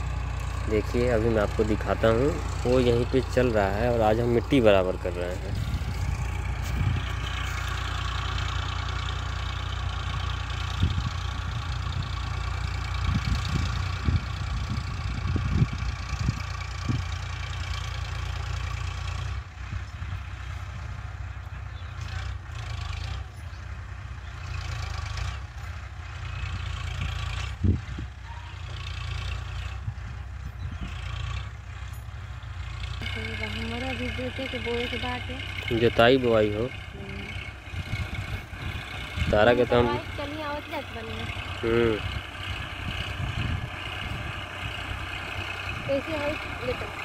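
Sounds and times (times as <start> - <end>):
distant tractor engine drone: 0.0 - 47.0.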